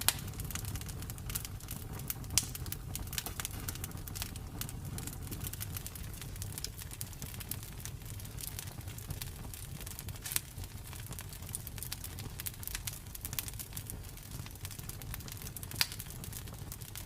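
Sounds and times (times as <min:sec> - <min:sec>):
flame rumble: 0:00.0 - 0:17.0
wood crackling in campfire: 0:00.0 - 0:17.0.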